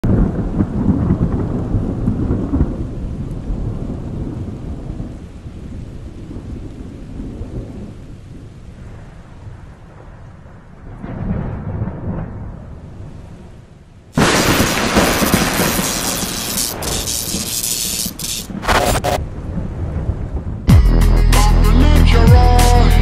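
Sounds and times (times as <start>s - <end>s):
deep rolling thunder: 0.0s - 13.5s, 14.2s - 17.6s, 18.5s - 20.7s.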